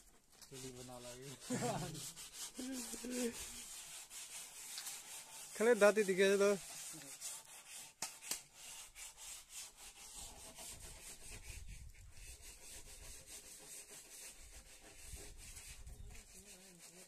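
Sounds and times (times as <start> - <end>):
hand-sanding wood: 0.1 - 17.0.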